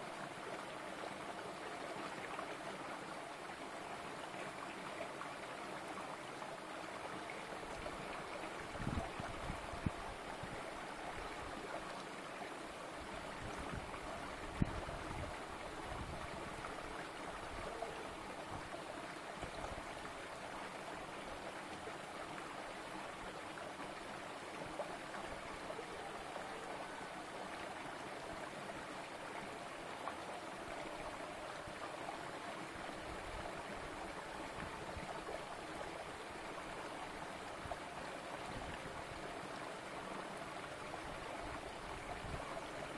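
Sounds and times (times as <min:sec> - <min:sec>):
stream burbling over rocks: 0:00.0 - 0:42.9.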